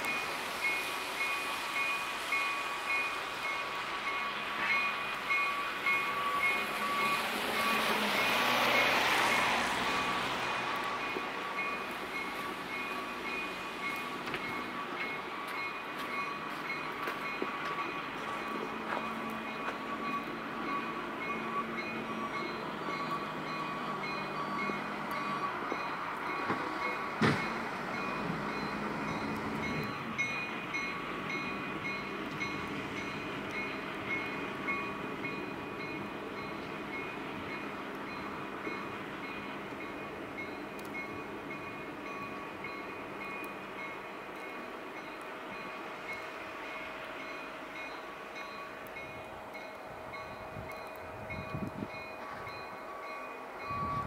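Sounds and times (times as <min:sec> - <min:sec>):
diesel locomotive engines rumbling: 0:00.0 - 0:54.0
locomotive bell ringing: 0:00.0 - 0:54.0.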